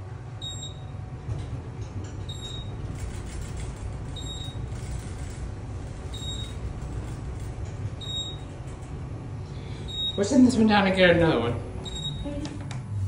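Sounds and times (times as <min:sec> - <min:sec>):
elevator low rumble: 0:00.0 - 0:13.0.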